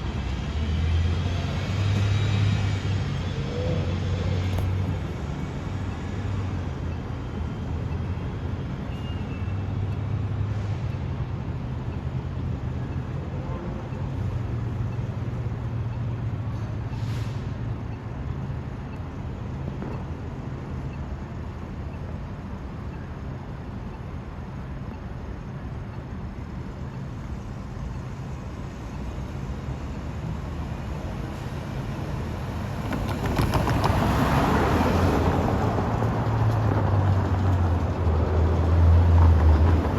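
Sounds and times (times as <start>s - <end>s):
transit vehicle low rumble: 0.0s - 39.9s.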